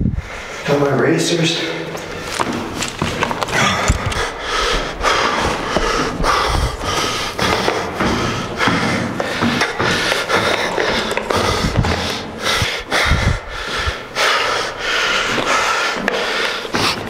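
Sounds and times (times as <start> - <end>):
footfalls on stairs: 1.8 - 17.0
man panting heavily: 2.0 - 17.0.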